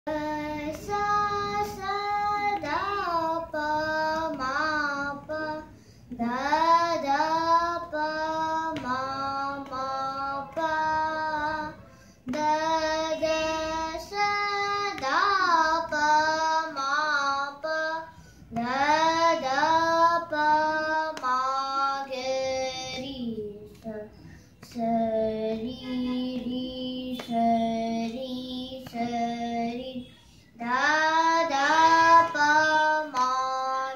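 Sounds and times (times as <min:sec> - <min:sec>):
girl singing: 0:00.1 - 0:33.9.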